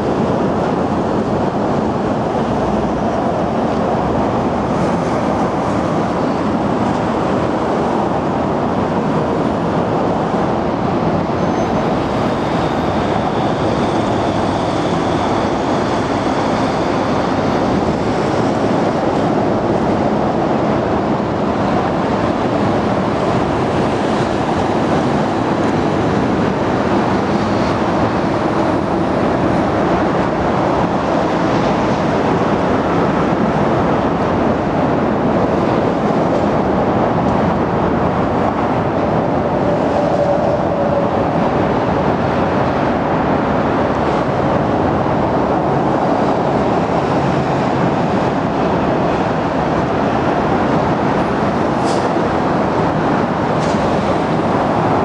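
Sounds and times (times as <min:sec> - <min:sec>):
expressway traffic roar: 0:00.0 - 0:55.0.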